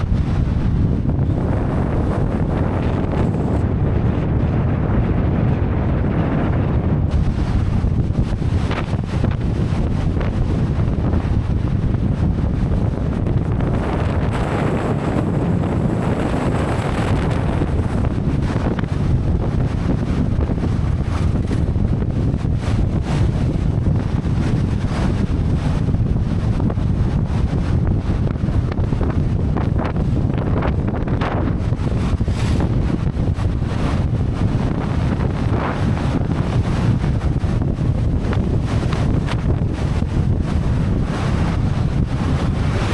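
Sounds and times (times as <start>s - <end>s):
sea surf washing: 0.0s - 5.0s, 7.0s - 42.9s
strong wind buffeting microphone: 0.0s - 42.9s.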